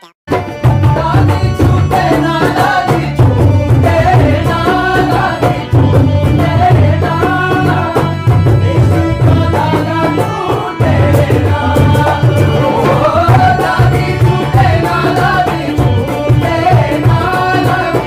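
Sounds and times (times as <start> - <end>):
person singing: 0.0 - 18.0
steady drum beat: 0.3 - 18.0.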